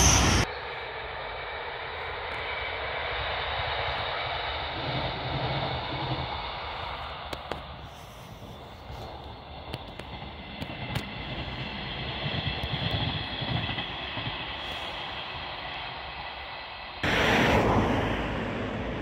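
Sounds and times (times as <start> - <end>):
distant train rumbling past: 0.0 - 19.0.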